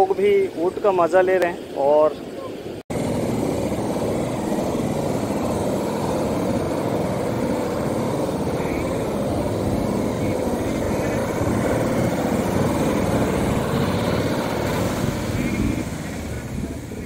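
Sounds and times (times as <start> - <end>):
wind buffeting microphone: 2.6 - 17.0
sea surf breaking on beach: 2.9 - 17.0.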